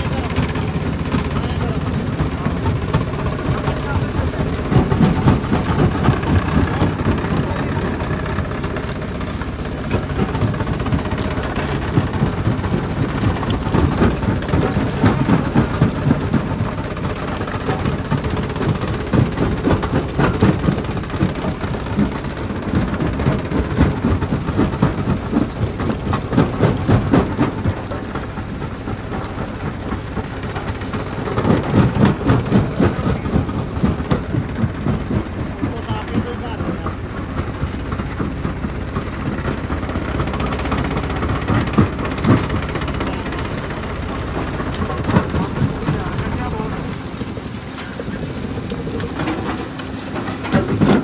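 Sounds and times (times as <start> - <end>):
rock crusher rumbling: 0.0 - 51.0.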